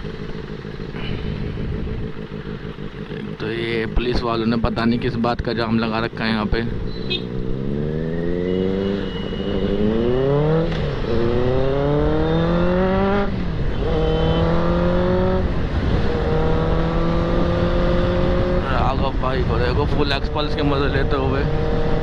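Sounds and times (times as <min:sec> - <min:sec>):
low wind rumble: 0:00.0 - 0:22.0
motorcycle engine accelerating: 0:00.0 - 0:22.0.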